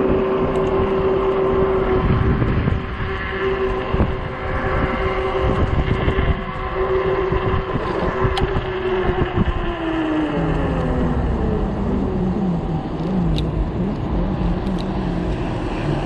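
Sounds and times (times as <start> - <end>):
steady whine: 0.0 - 16.0
wind buffeting microphone: 0.0 - 16.0.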